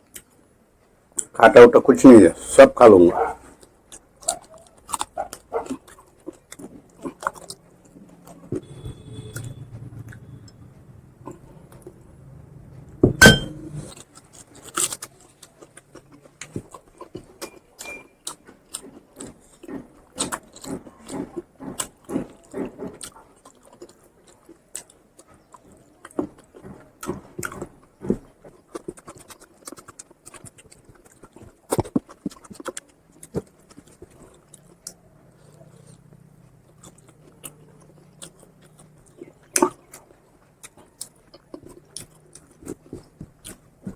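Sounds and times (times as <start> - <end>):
person chewing food: 3.3 - 43.9.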